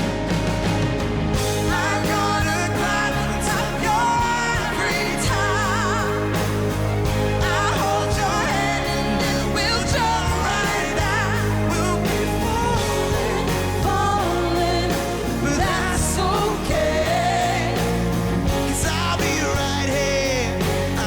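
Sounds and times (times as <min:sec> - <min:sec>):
band accompaniment: 0:00.0 - 0:21.0
singers vocal runs: 0:01.4 - 0:21.0.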